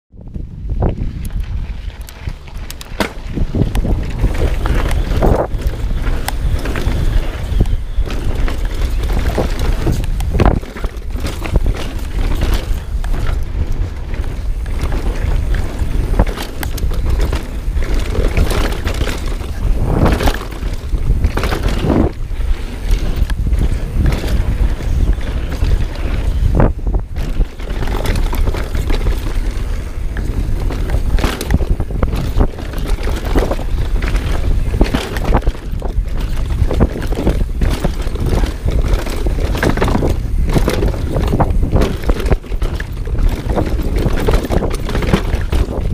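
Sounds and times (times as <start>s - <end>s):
wind buffeting microphone: 0.1s - 45.9s
bike tyres crunching on dirt: 0.2s - 45.9s
bike chain and frame clattering: 1.2s - 45.9s.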